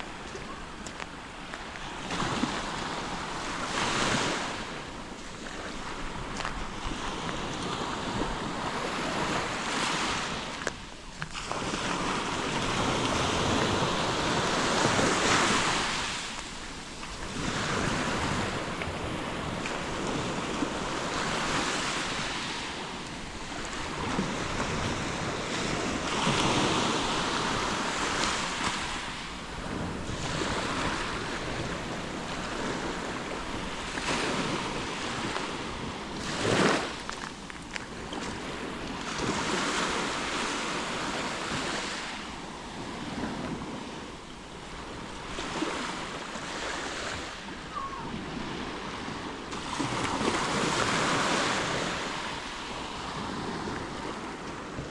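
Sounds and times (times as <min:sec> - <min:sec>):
waves breaking on beach: 0:00.0 - 0:54.9.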